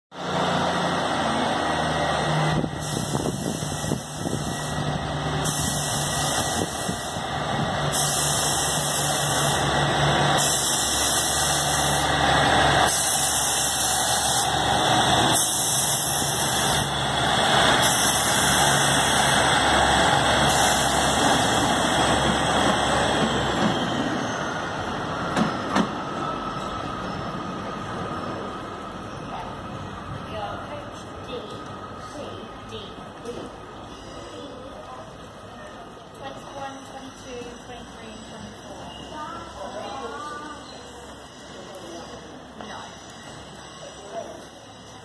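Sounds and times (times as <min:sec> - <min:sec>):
diesel train engines running: 0:00.1 - 0:45.0.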